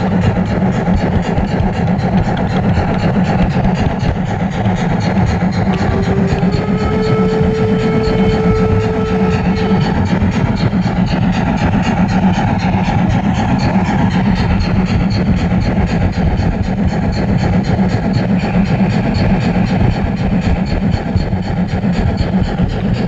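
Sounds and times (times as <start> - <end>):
fine regular ticking: 0.0 - 23.0
model steam locomotive running: 0.0 - 23.0
steady tone: 0.0 - 23.0.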